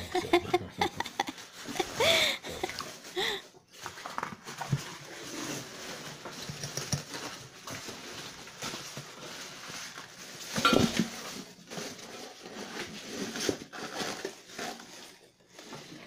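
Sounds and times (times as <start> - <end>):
packaging rustling: 0.0 - 14.8.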